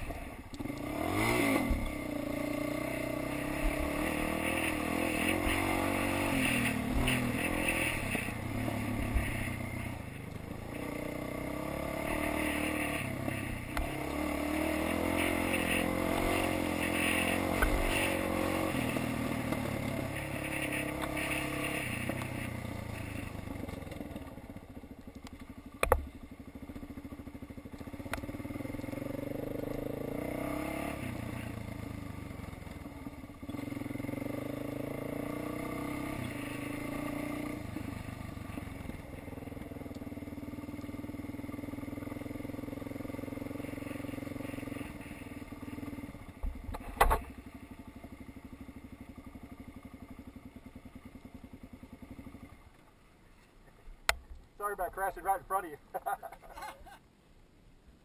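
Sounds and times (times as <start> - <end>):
dirt bike engine revving: 0.0 - 52.6.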